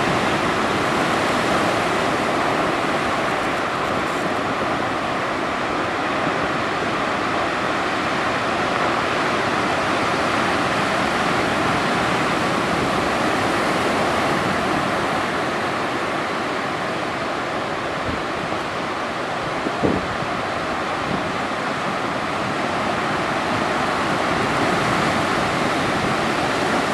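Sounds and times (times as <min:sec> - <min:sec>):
surf waves breaking: 0:00.0 - 0:26.9.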